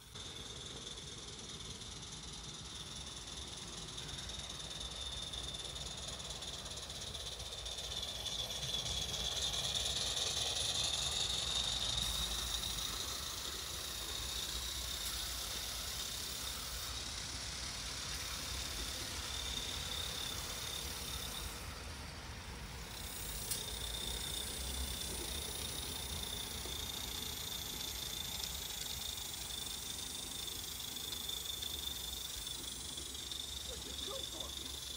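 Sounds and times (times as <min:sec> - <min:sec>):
model steam locomotive hissing: 0:00.0 - 0:34.9.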